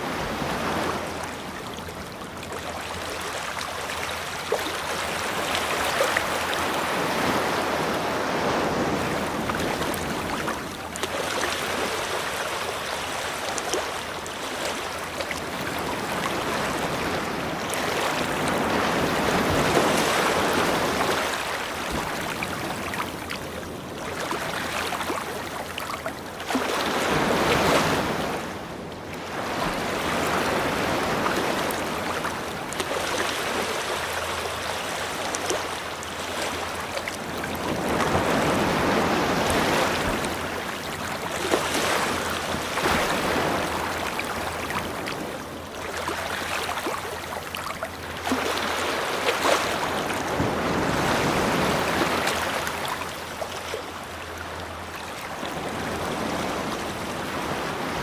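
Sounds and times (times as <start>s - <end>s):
ocean surf breaking on beach: 0.0s - 53.4s, 54.8s - 58.0s.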